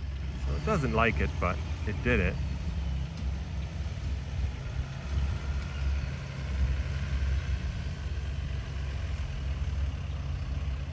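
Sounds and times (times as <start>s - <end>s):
truck engine rumbling: 0.0s - 10.9s.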